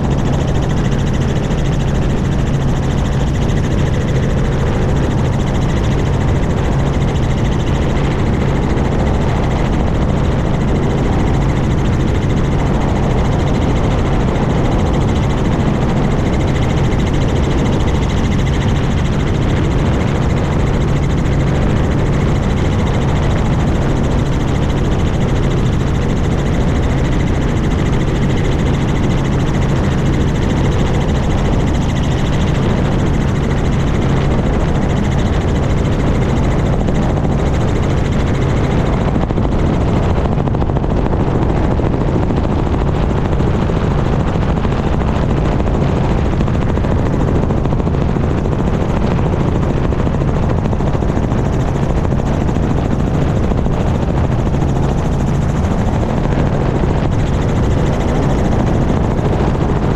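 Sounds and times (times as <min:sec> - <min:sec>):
helicopter rotor and engine noise: 0:00.0 - 0:59.9.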